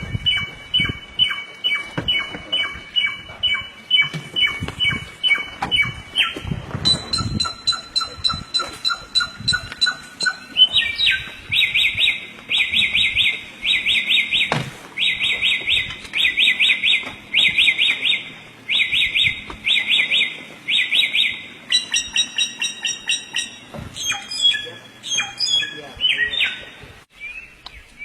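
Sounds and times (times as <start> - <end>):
songbird chirps and warbles: 0.0 - 28.0.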